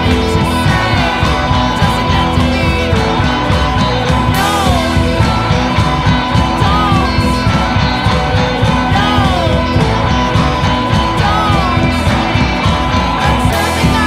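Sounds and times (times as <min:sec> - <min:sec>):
punk rock band playing: 0:00.0 - 0:14.0.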